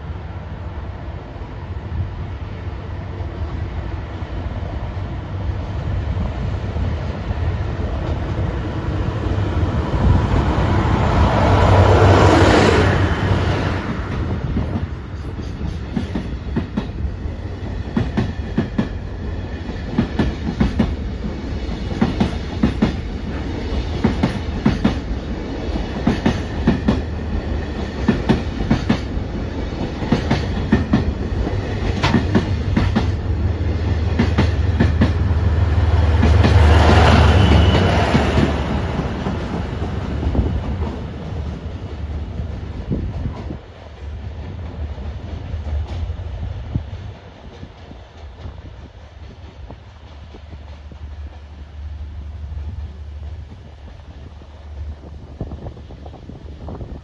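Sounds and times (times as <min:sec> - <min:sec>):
diesel locomotive engine: 0:00.0 - 0:57.0
second locomotive engine: 0:00.0 - 0:57.0.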